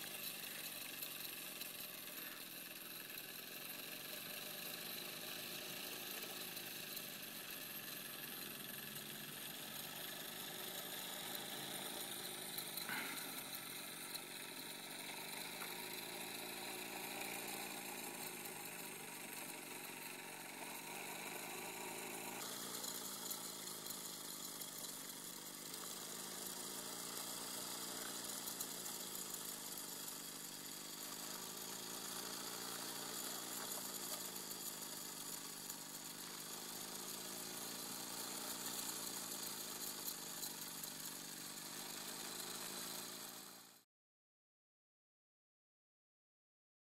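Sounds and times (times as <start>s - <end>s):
model steam engine running: 0.0s - 43.8s.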